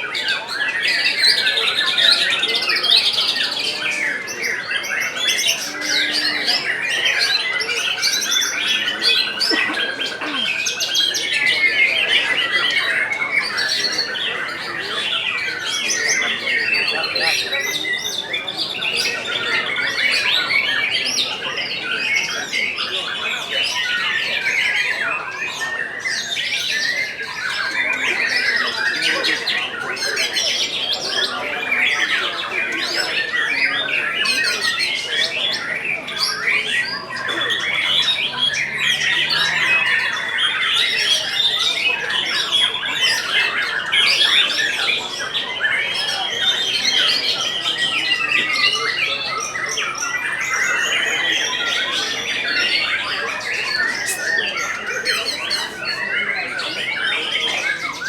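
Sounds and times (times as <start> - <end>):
songbirds singing over one another: 0.0 - 58.0.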